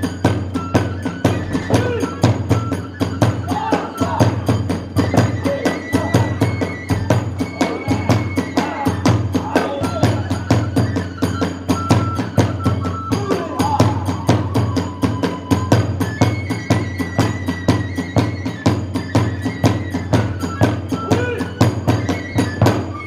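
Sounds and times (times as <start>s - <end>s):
drums beating: 0.0s - 23.0s
transverse flute high notes: 0.0s - 23.0s.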